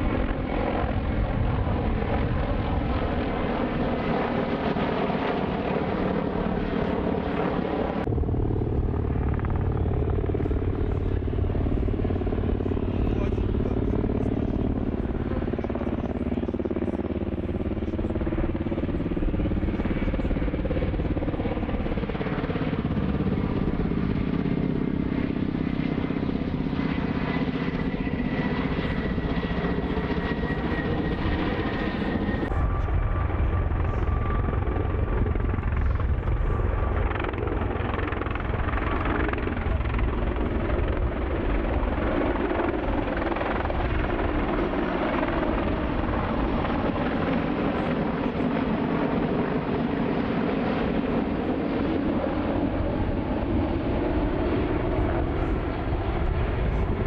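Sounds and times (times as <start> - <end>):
heavy helicopter rotor noise: 0.0 - 57.0
helicopter rotor beat and whine: 0.0 - 57.0.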